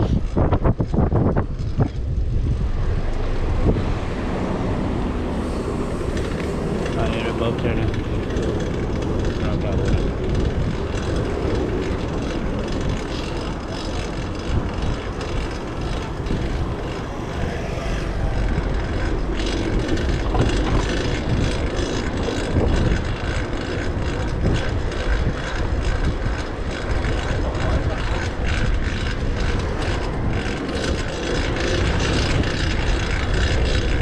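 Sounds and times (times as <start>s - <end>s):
bicycle road and drivetrain noise: 0.0s - 34.0s
wind on microphone: 0.0s - 34.0s.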